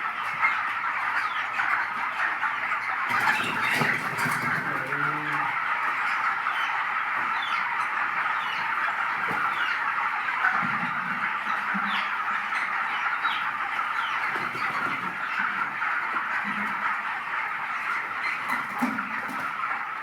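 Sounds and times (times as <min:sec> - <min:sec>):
flock of chicks cheeping: 0:00.0 - 0:20.0.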